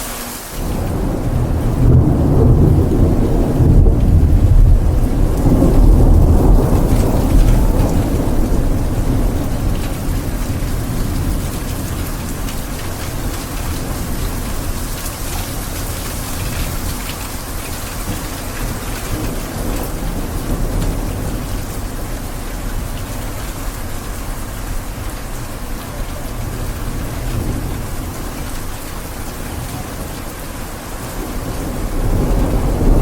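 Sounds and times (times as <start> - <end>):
steady rain: 0.0 - 33.0
thunder rumble: 0.6 - 33.0.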